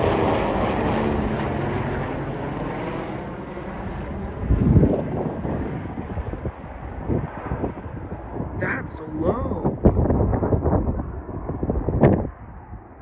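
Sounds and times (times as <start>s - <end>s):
helicopter flying overhead: 0.0s - 13.0s.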